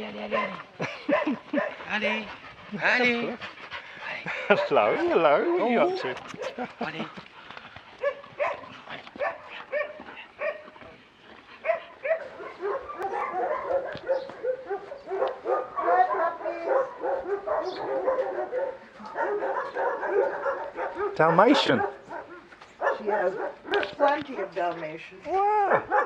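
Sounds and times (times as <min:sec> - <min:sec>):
dogs barking and yipping: 0:00.0 - 0:25.0, 0:25.6 - 0:26.0.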